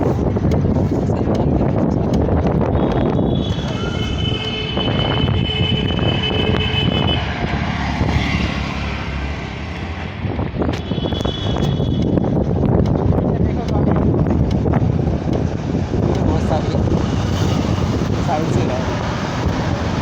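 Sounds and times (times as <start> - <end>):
low rumble of traffic: 0.0 - 20.0
wind buffeting microphone: 0.0 - 20.0.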